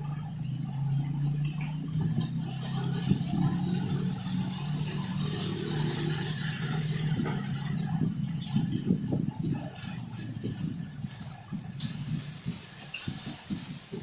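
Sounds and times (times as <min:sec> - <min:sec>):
low machine hum: 0:00.0 - 0:12.2
gusting wind: 0:01.8 - 0:14.0.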